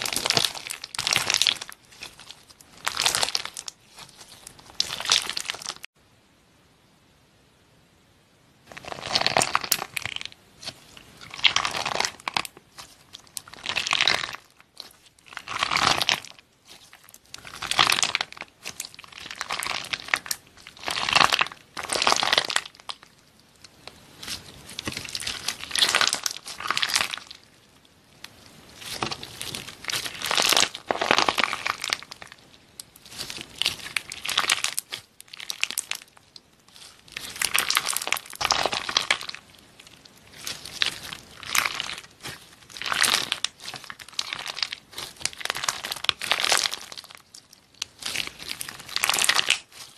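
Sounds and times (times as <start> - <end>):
slime crackling and crinkling: 0.0 - 5.9, 8.6 - 49.9.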